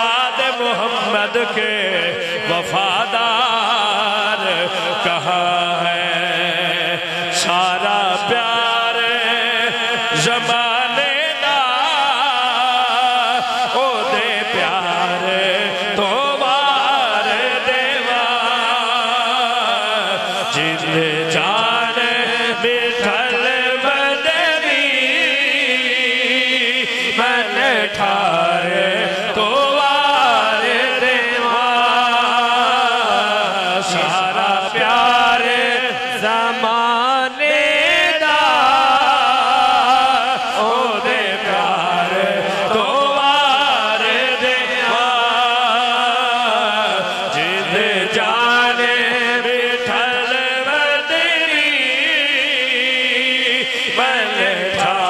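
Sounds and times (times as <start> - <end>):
man singing over loudspeakers: 0.0 - 55.0.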